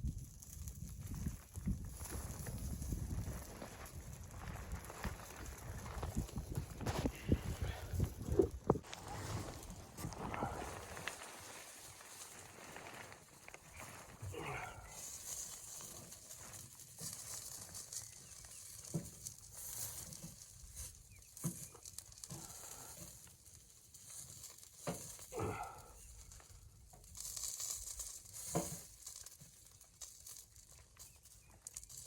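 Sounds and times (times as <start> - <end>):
rustling and crinkling: 0.0 - 32.0.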